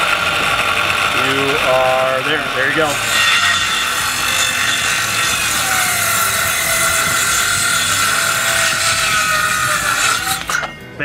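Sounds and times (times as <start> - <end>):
circular saw cutting wood: 0.0 - 11.0.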